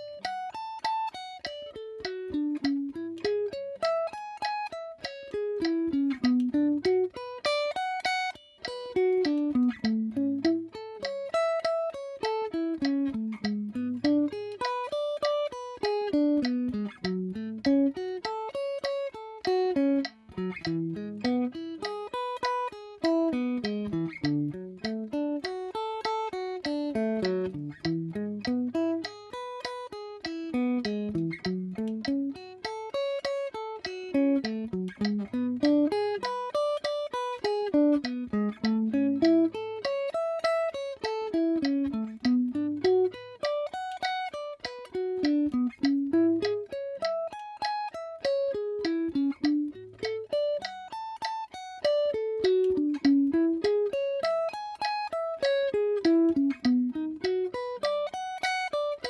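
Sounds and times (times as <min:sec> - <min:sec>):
electric guitar arpeggios: 0:00.0 - 0:59.0.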